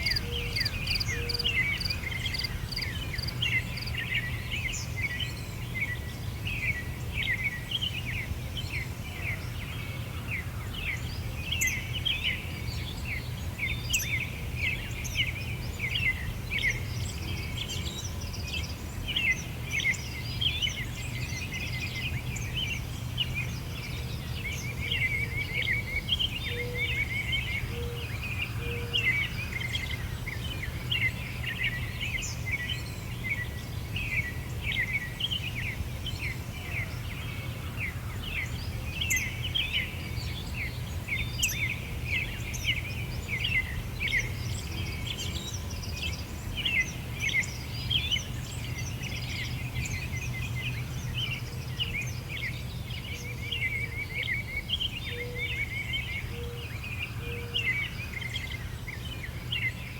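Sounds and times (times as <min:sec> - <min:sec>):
birds chirping and trilling: 0:00.0 - 0:04.9, 0:13.0 - 0:59.9.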